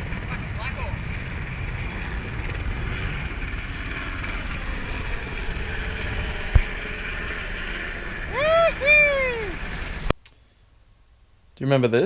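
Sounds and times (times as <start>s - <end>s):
helicopter rumble: 0.0s - 10.1s.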